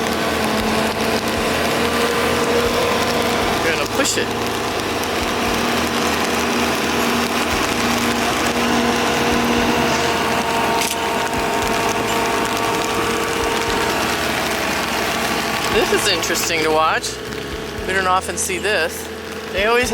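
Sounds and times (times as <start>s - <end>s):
loud rushing noise: 0.0s - 19.9s
machine engine running: 0.0s - 19.9s.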